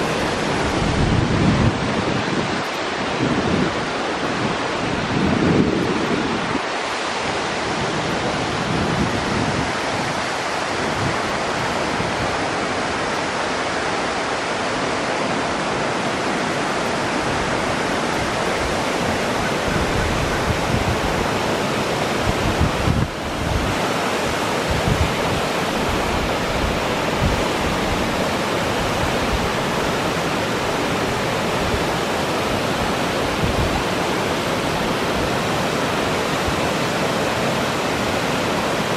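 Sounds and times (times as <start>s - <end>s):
waterfall roaring: 0.0s - 38.9s
wind rumble on microphone: 0.0s - 38.9s.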